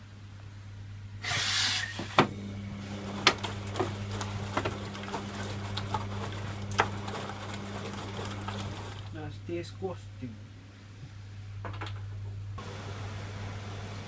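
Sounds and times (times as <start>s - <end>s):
washing machine hum: 0.0s - 14.0s.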